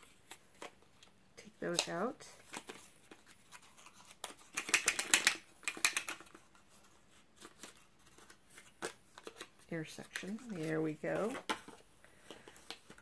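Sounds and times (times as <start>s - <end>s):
packaging clicks and rattles: 1.7s - 6.6s, 7.4s - 13.0s.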